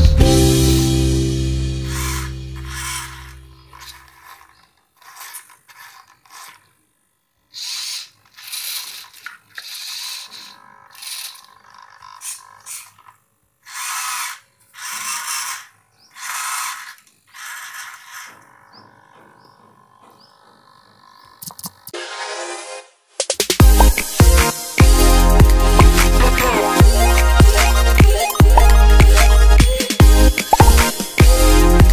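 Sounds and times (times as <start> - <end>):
servo motors whirring: 1.8 - 21.9, 23.6 - 31.9.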